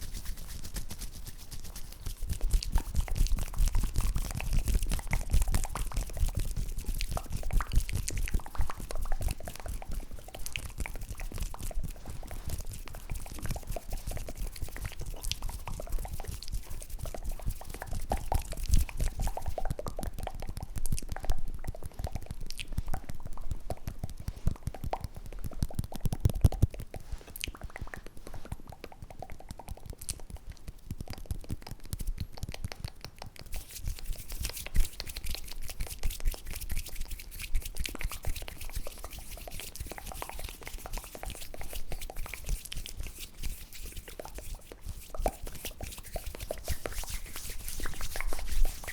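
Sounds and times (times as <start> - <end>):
wet mouth clicks and crackles: 0.0 - 48.9.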